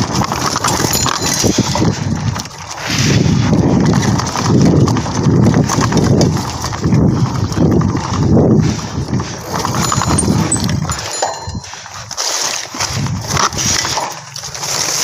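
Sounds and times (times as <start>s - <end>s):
mountain bike clattering on dirt trail: 0.0s - 15.0s.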